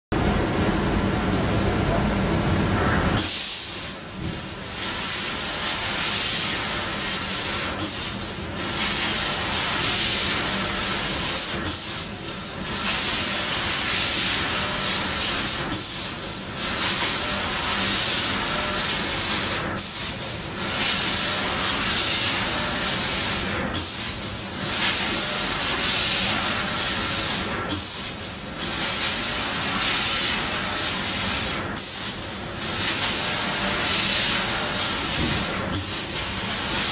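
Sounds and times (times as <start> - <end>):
laser cutter gas hissing: 3.2 - 36.9.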